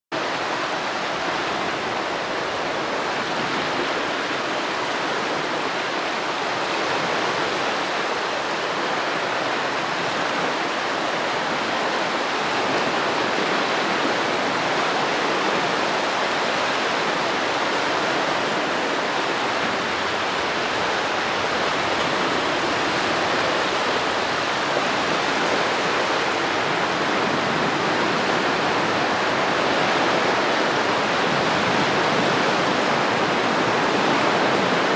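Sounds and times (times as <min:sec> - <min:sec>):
small waves washing onto beach: 0:00.2 - 0:34.9.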